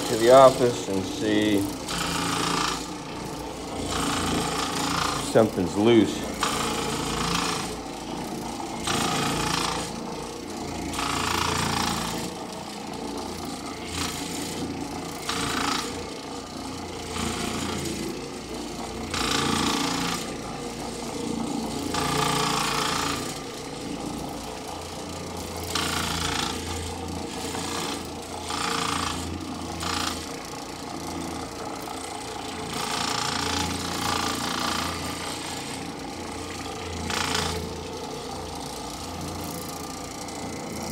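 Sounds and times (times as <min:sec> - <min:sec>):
floor machine humming: 0:00.0 - 0:40.9
rattling vibration: 0:00.0 - 0:40.9.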